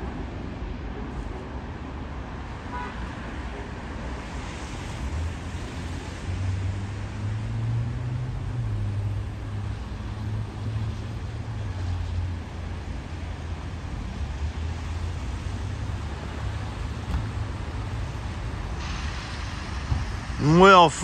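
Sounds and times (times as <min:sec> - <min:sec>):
traffic noise: 0:00.0 - 0:21.0
engine rumble: 0:03.5 - 0:21.0.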